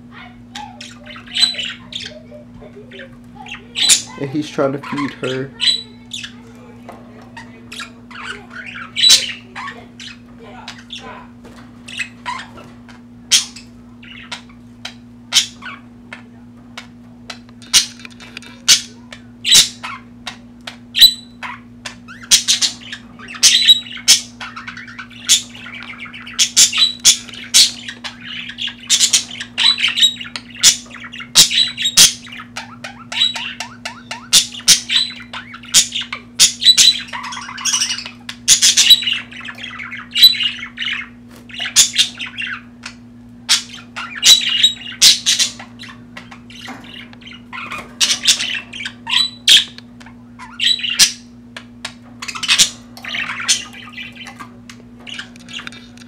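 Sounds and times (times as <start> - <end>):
steady low hum: 0.0 - 56.0
budgerigars squawking and chirping: 0.1 - 56.0.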